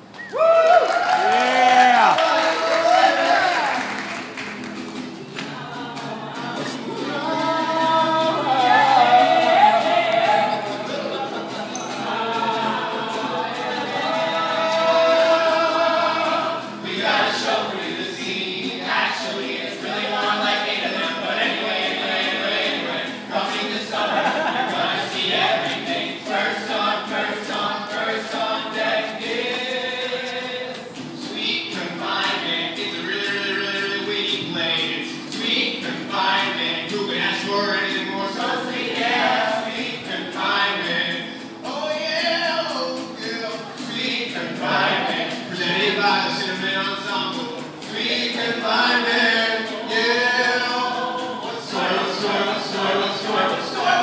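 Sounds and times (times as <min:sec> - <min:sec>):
small group singing: 0:02.1 - 0:04.2, 0:05.2 - 0:54.0.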